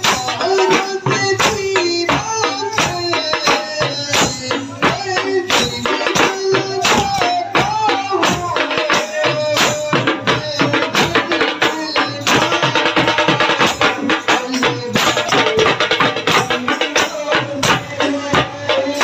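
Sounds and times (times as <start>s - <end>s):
fast drum beat: 0.0s - 19.0s
man singing into microphone: 0.0s - 19.0s.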